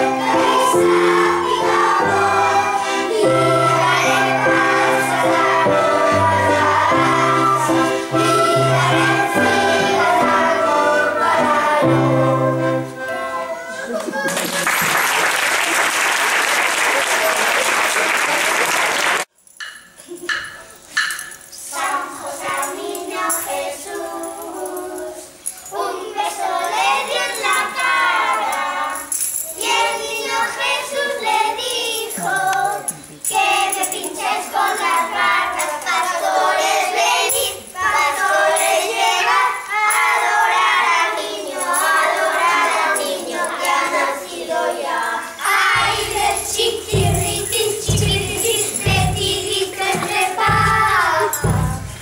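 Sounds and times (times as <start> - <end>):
tambourine and bell jingles: 0.0 - 11.4, 19.3 - 52.0
children singing: 0.0 - 14.3, 21.6 - 52.0.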